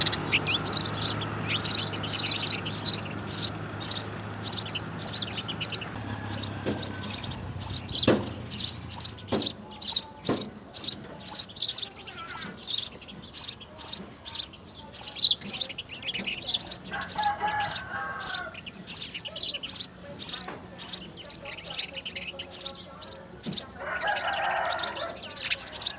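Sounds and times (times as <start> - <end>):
sparrows chirping: 0.0 - 25.9.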